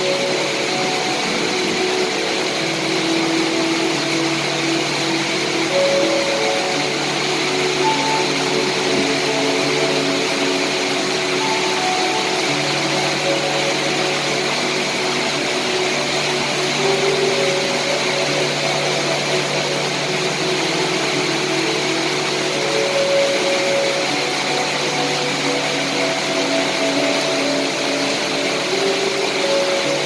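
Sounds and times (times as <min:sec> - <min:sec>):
dense rain hiss: 0:00.0 - 0:30.0.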